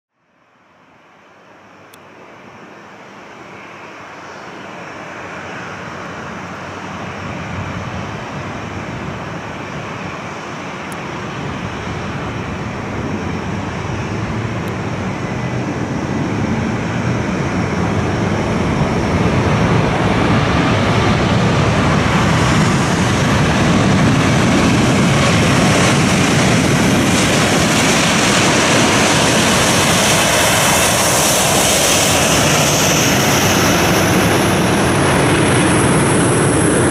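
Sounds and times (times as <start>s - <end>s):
jet engines roaring: 1.6s - 36.9s.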